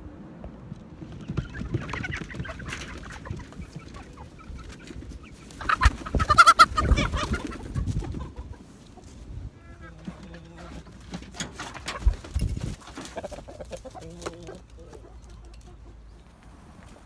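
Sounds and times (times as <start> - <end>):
chickens squawking and flapping wings: 0.9 - 17.0
chickens clucking: 1.0 - 17.0.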